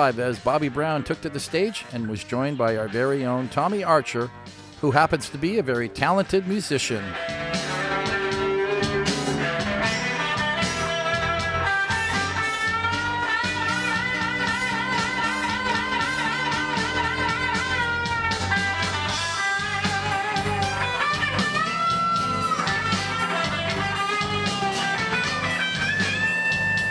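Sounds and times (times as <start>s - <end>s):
blues-rock band with electric guitar: 0.0s - 26.9s.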